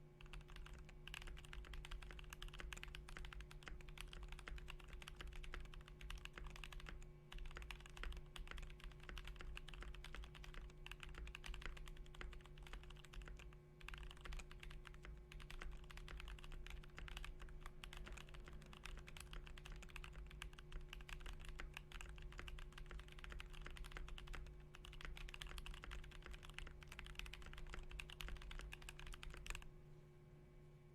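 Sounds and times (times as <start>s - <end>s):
faint steady hum: 0.0s - 30.9s
mechanical keyboard typing: 0.2s - 29.7s.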